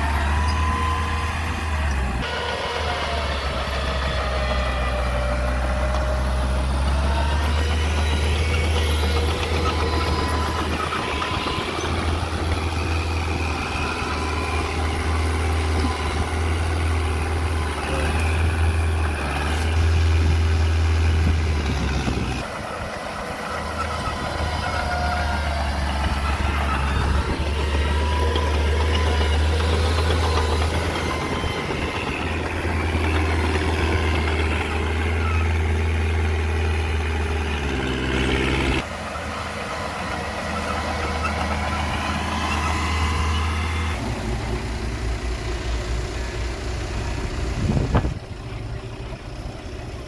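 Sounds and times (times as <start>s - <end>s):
heavy diesel engines running: 0.0s - 50.0s.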